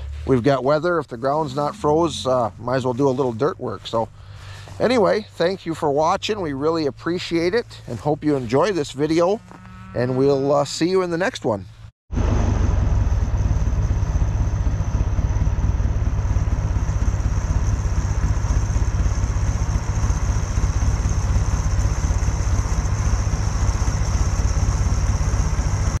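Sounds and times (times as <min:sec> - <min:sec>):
tractor engine running: 0:00.0 - 0:09.8, 0:10.5 - 0:26.0.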